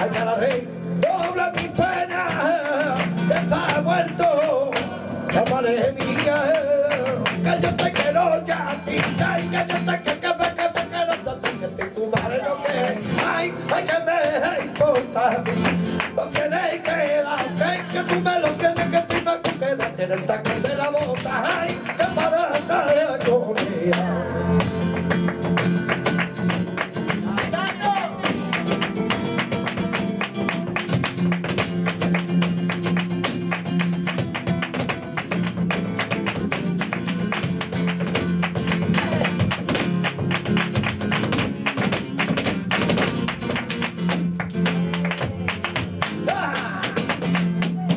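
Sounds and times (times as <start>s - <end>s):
flamenco guitar: 0.0s - 47.9s.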